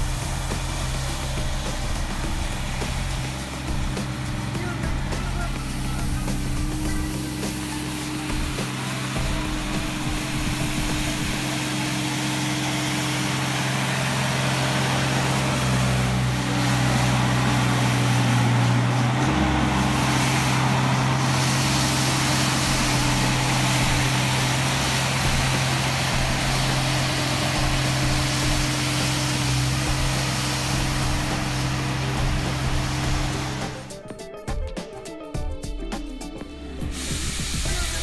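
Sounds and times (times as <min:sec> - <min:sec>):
rotary brush sweeping snow: 0:00.0 - 0:33.9
engine drone: 0:00.0 - 0:34.0.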